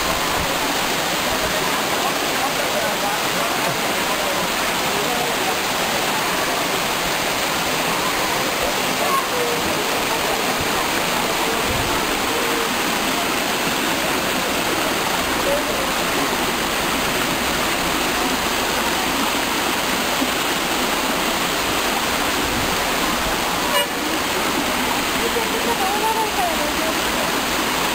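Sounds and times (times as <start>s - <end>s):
waterfall rushing over rocks: 0.0s - 27.9s.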